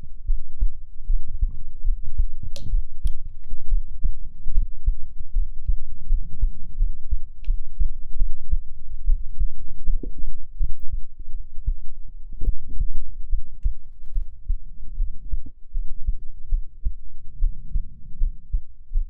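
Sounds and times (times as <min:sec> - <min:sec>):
heartbeat thumps: 0:00.0 - 0:19.0.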